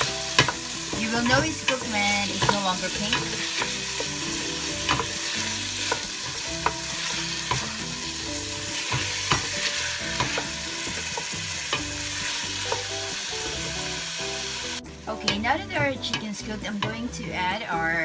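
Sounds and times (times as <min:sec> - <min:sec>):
food sizzling in butter: 0:00.0 - 0:17.7.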